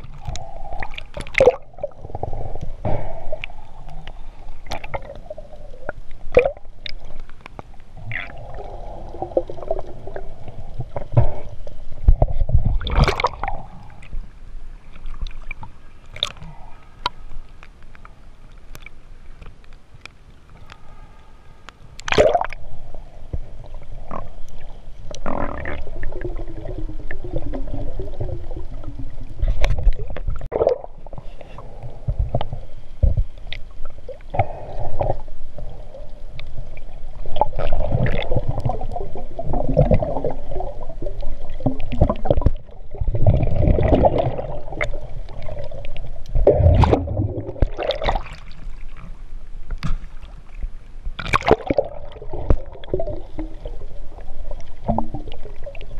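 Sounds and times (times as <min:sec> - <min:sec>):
underwater gurgling and sloshing: 0:00.0 - 0:55.9.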